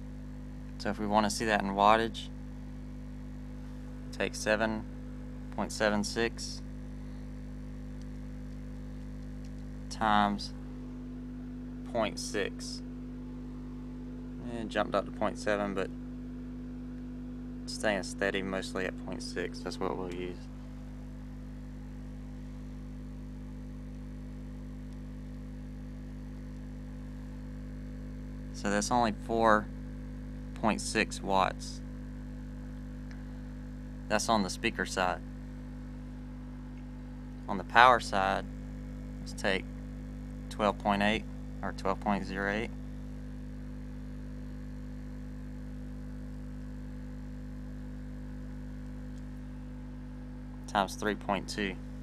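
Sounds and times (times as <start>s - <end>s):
subwoofer low test tone hum: 0.0s - 52.0s.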